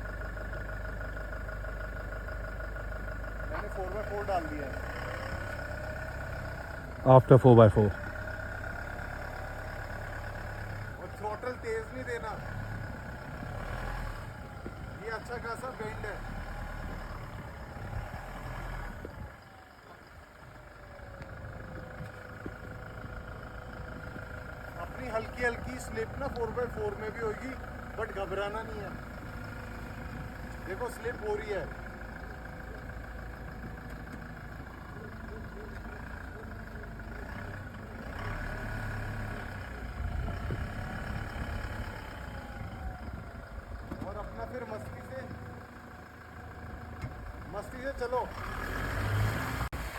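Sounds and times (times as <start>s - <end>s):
diesel engine running low: 0.0s - 49.9s.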